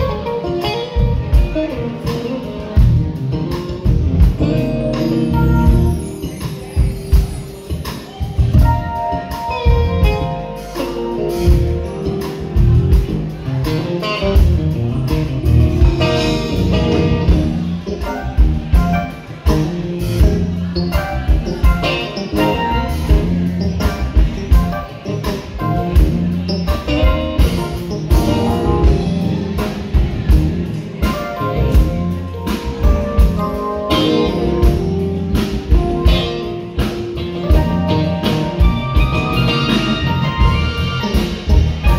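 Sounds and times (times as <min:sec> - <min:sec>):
live band with guitar and drums: 0:00.0 - 0:41.9.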